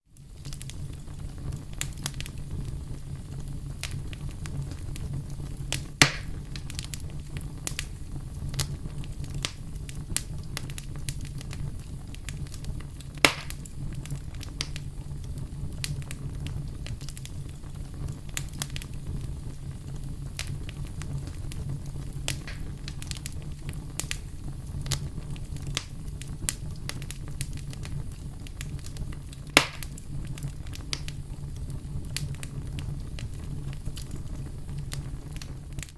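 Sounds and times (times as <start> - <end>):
fire popping: 0.0 - 35.9
wood fire crackling: 0.0 - 35.9.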